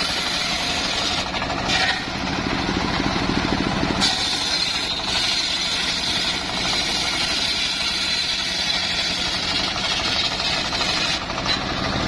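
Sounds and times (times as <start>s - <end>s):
circular saw blade whining in wood: 0.0s - 12.0s
engine running low: 0.0s - 12.0s.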